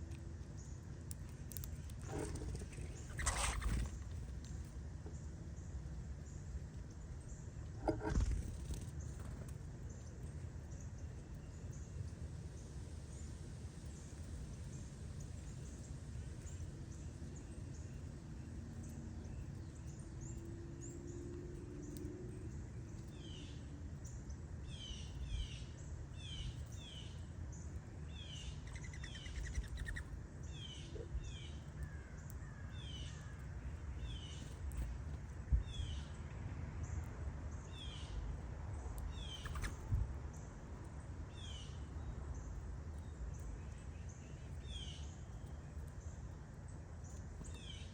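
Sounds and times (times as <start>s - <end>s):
low outdoor rumble: 0.0s - 47.9s
small songbirds chirping: 0.0s - 47.9s.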